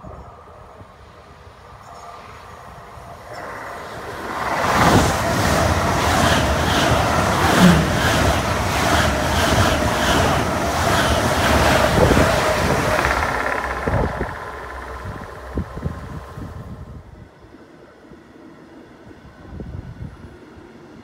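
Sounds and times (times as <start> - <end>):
high-speed train passing: 0.0 - 21.0.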